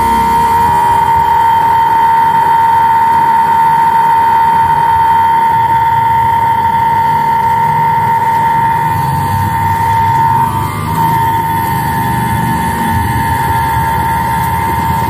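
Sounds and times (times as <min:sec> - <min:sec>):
small suction pump whining: 0:00.0 - 0:15.0.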